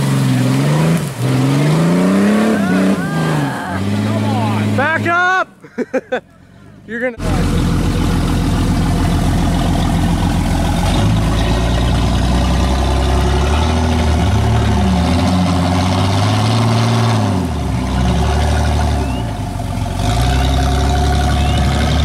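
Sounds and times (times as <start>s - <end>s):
car engine revving: 0.0s - 5.2s, 7.0s - 22.0s.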